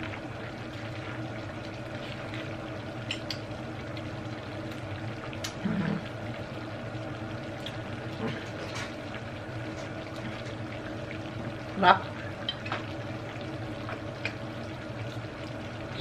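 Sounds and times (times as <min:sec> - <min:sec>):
stew bubbling in a pan: 0:00.0 - 0:16.0.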